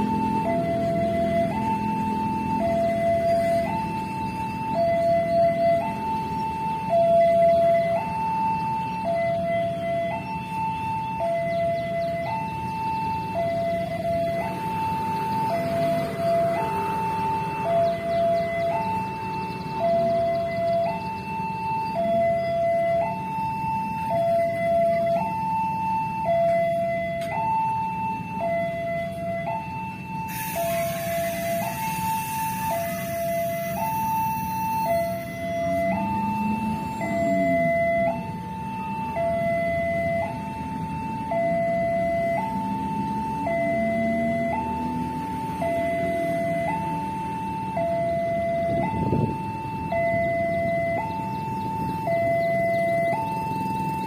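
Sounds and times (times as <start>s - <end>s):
low rumble of road traffic: 0.0s - 54.0s
two-tone level crossing alarm: 0.0s - 54.0s.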